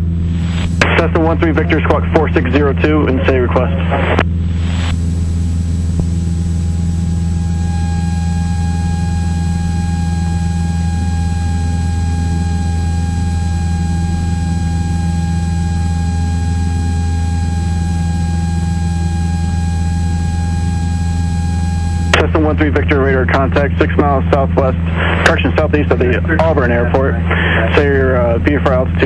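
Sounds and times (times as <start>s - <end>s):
small plane engine drone: 0.0s - 29.0s.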